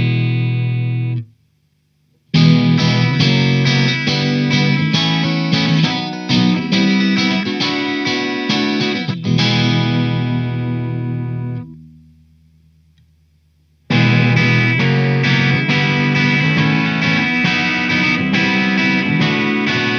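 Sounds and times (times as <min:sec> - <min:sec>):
electric guitar strummed chords: 0:00.0 - 0:01.3, 0:02.3 - 0:12.4, 0:13.9 - 0:19.9.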